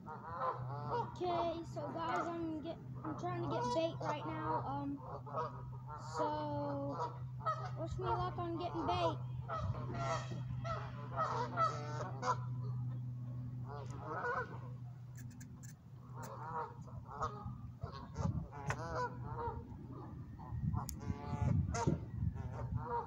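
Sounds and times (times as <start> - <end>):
geese honking: 0.0 - 23.0
steady low hum: 0.0 - 23.0.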